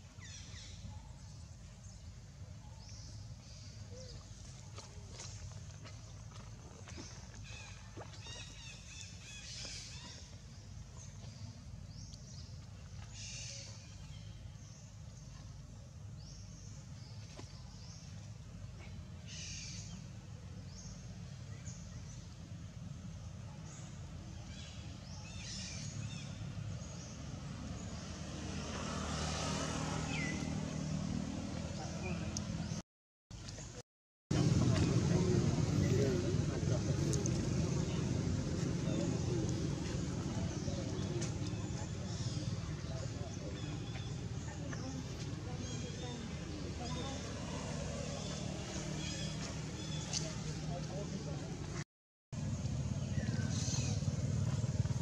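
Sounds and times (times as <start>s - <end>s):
low rumble of outdoor noise: 0.0s - 55.0s
vehicle engine humming: 3.4s - 32.8s, 33.4s - 55.0s.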